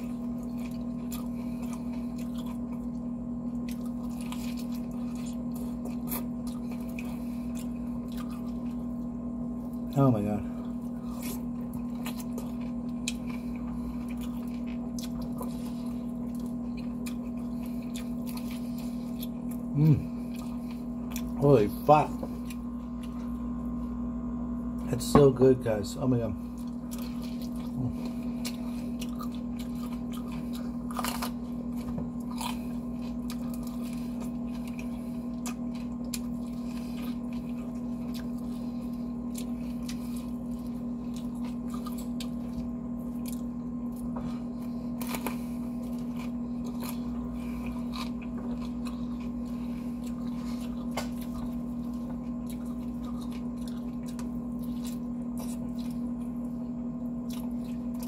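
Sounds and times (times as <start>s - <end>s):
chewing crispy fried chicken: 0.0s - 58.0s
steady low hum: 0.0s - 58.0s.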